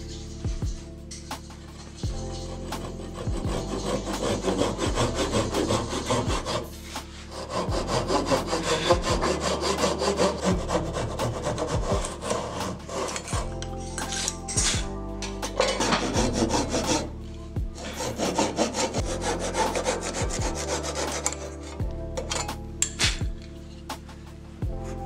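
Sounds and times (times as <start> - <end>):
hand saw cutting wood: 0.0 - 23.8.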